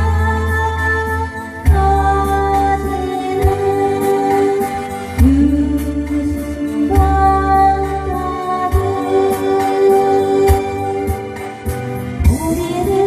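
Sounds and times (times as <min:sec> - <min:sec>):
slow ballad backing music: 0:00.0 - 0:13.0.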